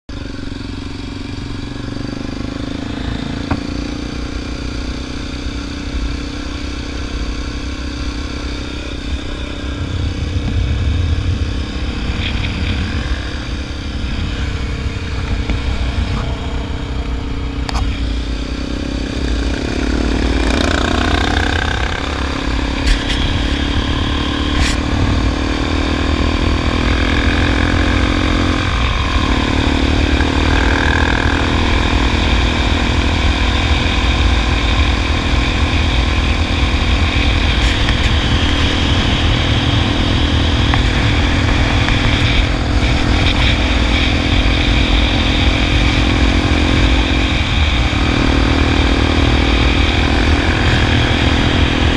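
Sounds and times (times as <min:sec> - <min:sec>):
motorcycle engine running: 0:00.0 - 0:51.9
wind rumbling on microphone: 0:05.6 - 0:51.9.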